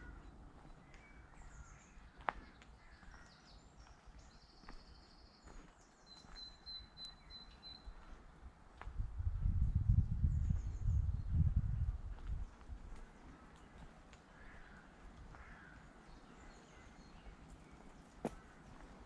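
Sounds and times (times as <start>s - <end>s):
small birds chirping and trilling: 0.0s - 8.2s, 9.8s - 19.0s.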